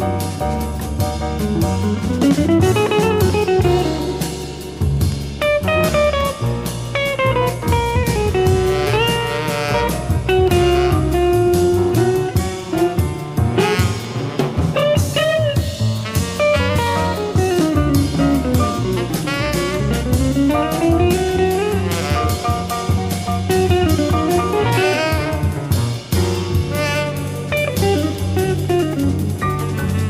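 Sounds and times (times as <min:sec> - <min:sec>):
drum kit: 0:00.0 - 0:30.0
jazz lead melody: 0:00.0 - 0:30.0
walking bass line: 0:00.0 - 0:30.0.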